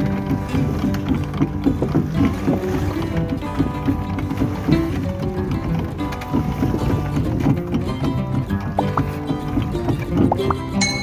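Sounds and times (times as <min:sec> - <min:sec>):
background music with pitched notes: 0:00.0 - 0:11.0.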